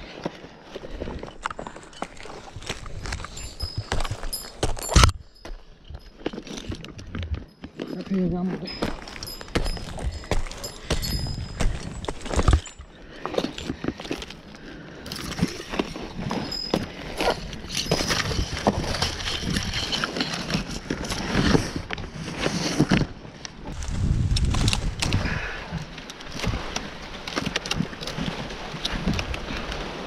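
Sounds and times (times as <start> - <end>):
palm fronds scraping and crackling: 0.0 - 30.0.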